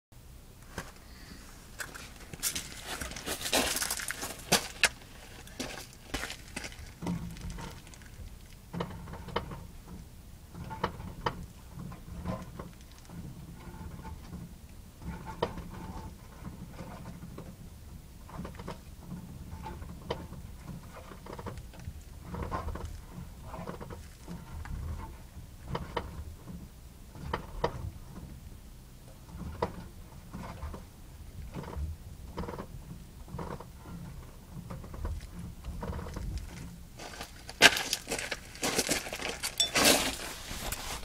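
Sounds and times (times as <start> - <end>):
steering creaking: 0.6 - 17.6, 18.2 - 28.4, 29.1 - 41.0.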